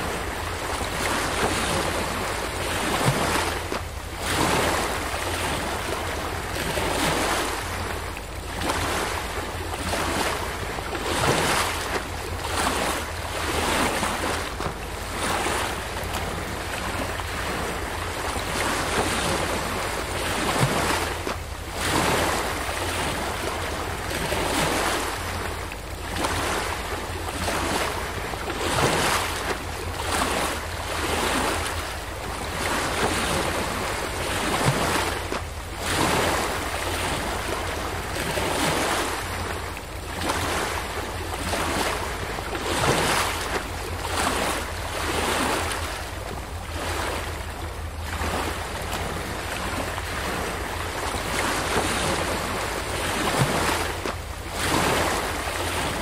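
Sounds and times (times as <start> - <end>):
waves splashing against rocks: 0.0 - 56.0.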